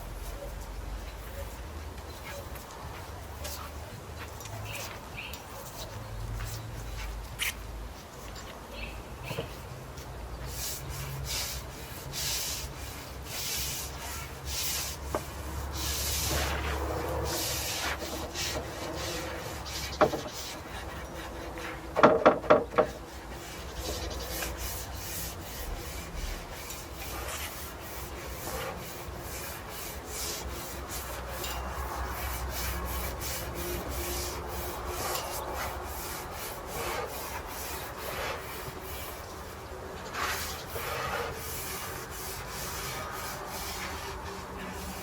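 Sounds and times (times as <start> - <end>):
paint brush scratching on wood: 0.0 - 8.6, 9.3 - 45.0.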